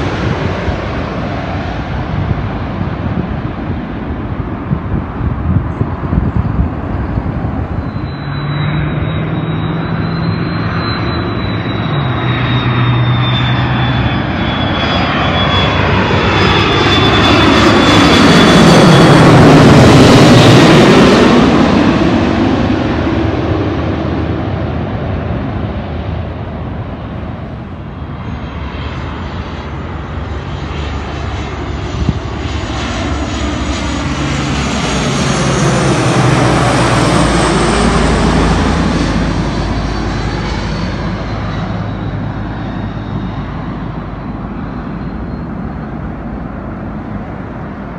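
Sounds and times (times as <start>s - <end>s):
jet airliner passing overhead: 0.0s - 47.9s.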